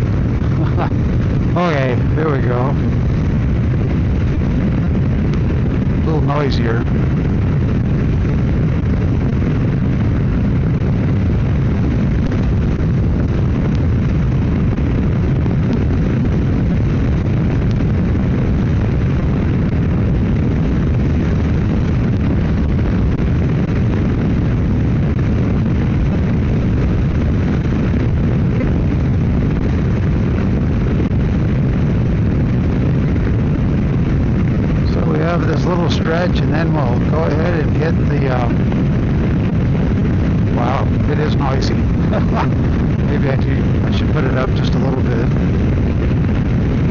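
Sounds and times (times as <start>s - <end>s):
wind rushing on microphone: 0.0s - 46.9s.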